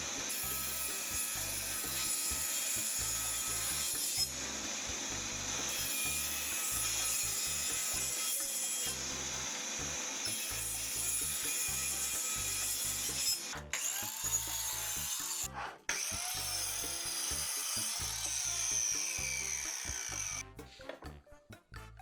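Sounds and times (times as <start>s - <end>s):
power tool working wood: 0.0s - 20.4s
background music with steady beat: 0.0s - 22.0s.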